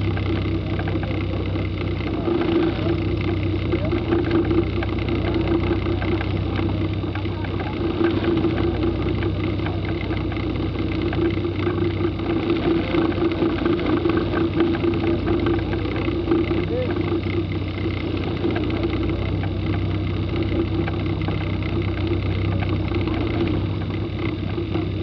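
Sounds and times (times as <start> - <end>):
car engine running at low revs: 0.0 - 25.0.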